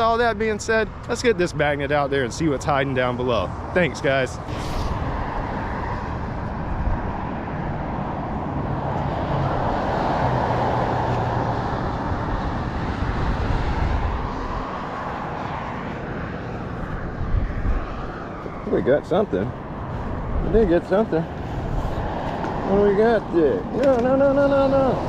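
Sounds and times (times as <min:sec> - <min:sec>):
motor traffic rumbling: 0:00.0 - 0:25.0.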